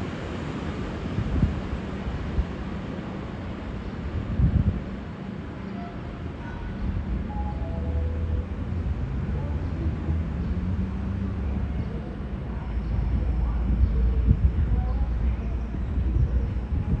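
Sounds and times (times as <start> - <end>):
train engine rumble: 0.0 - 17.0.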